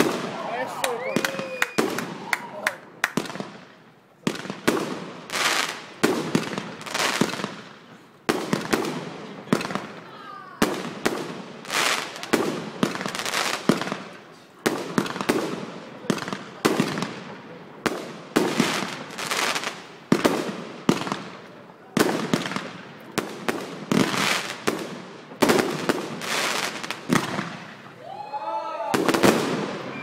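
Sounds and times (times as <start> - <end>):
fireworks bangs: 0.0 - 28.0, 28.8 - 30.0.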